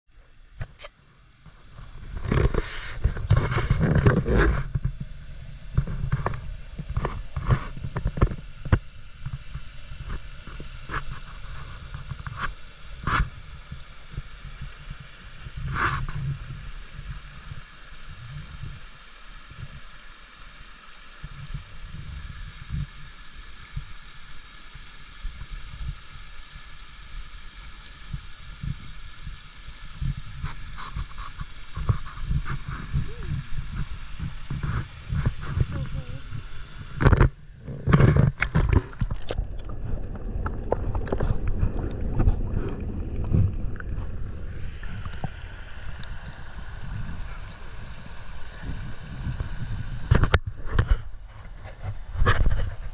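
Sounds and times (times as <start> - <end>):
muffled underwater stream rush: 0.2 - 52.9.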